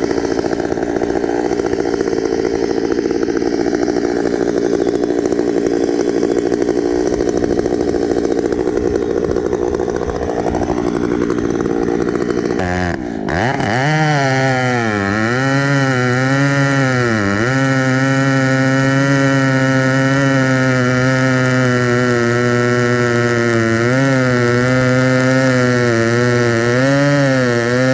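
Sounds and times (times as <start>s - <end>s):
chainsaw at full throttle: 0.0s - 27.9s.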